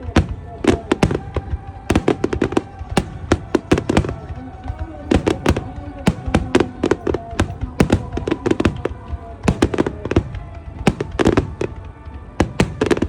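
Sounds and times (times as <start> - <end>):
fireworks bangs and crackles: 0.0 - 13.0
music with long held tones: 0.0 - 13.0.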